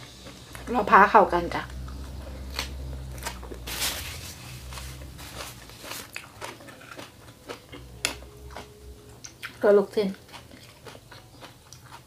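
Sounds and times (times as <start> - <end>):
chewing leafy greens: 0.0 - 12.0.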